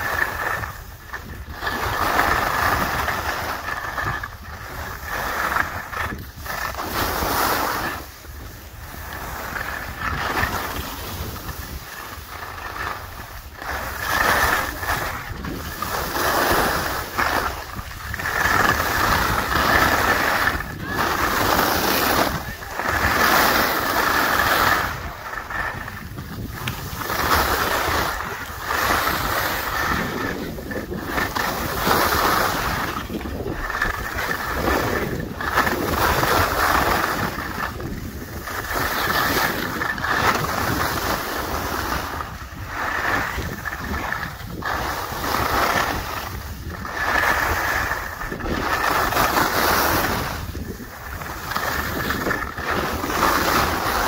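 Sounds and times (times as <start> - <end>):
skis scraping on snow: 0.0 - 54.0
wind on the microphone: 0.0 - 54.0.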